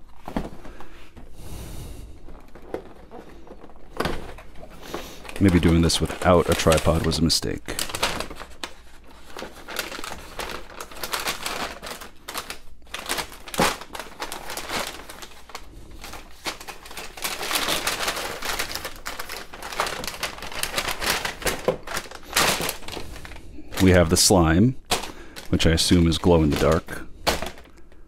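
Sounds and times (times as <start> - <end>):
paper packaging rustling: 0.0 - 1.2, 2.1 - 28.0.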